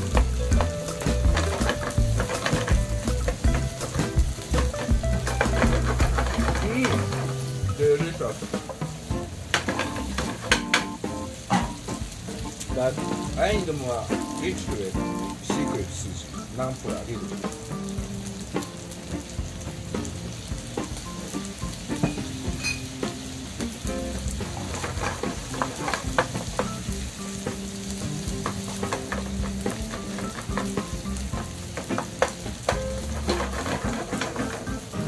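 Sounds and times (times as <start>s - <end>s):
wooden spatula scraping a pan: 0.0s - 15.7s, 21.8s - 35.0s
rice sizzling in a frying pan: 0.0s - 35.0s.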